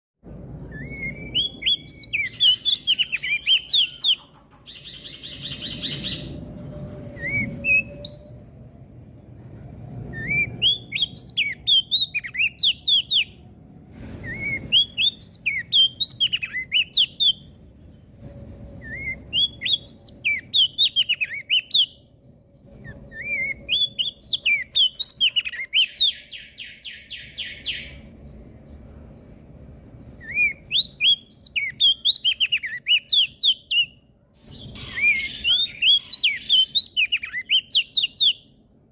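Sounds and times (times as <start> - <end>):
bird singing high chirps: 0.5 - 8.6, 10.0 - 13.5, 14.1 - 28.4, 29.1 - 38.7.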